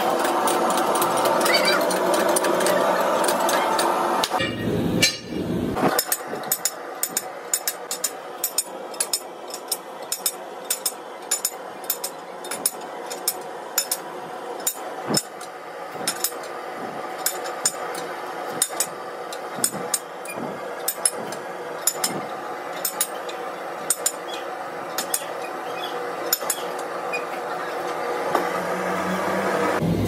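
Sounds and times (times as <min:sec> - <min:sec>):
hand tools clicking and tapping on metal: 0:00.0 - 0:28.5
steady machine noise: 0:00.0 - 0:30.0.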